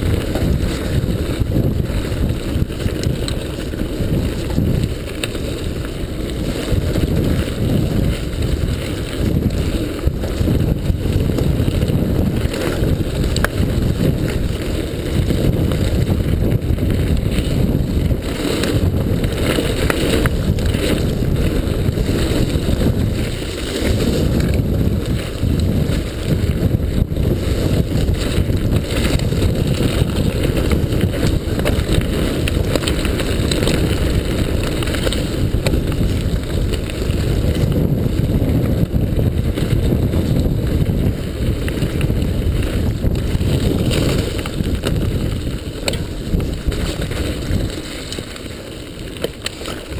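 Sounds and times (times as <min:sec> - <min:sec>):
bike rattling: 0:00.0 - 0:49.9
wind rumbling on the microphone: 0:00.0 - 0:49.9.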